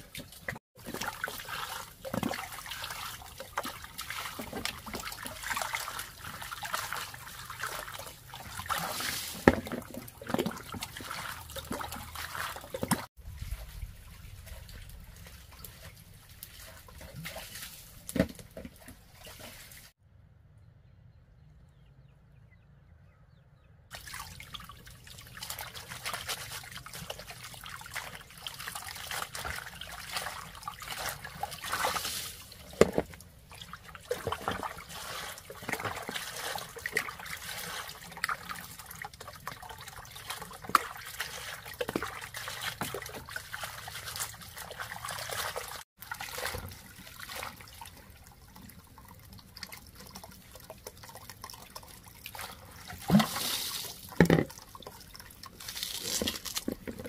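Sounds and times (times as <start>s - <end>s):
water trickling and splashing: 0.0s - 20.0s, 23.9s - 57.0s.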